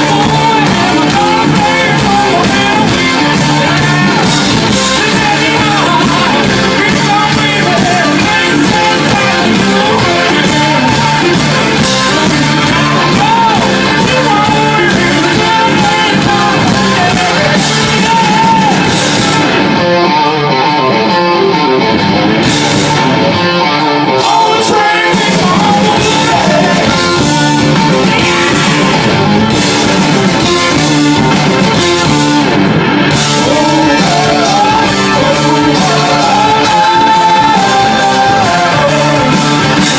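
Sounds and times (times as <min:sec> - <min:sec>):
lead vocal singing: 0:00.0 - 0:19.5, 0:24.0 - 0:32.4, 0:33.1 - 0:39.9
live rock band: 0:00.0 - 0:39.9.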